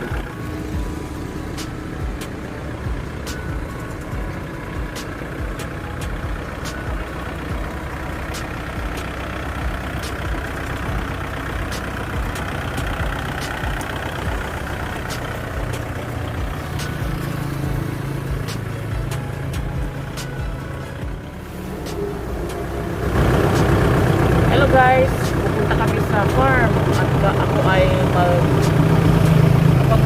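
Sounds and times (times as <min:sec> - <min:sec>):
low engine hum: 0:00.0 - 0:30.0
vehicle engine running: 0:00.0 - 0:30.0.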